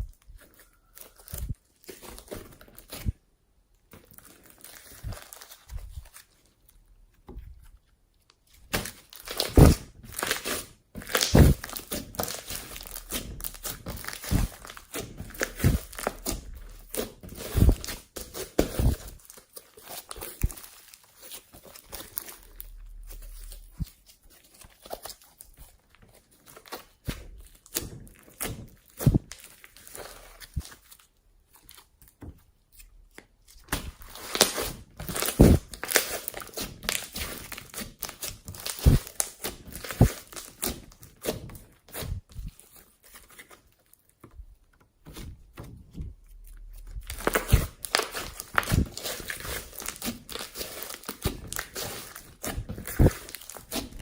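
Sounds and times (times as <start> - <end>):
slime squishing and crackling: 0.0 - 3.2, 8.4 - 44.3, 44.9 - 54.0.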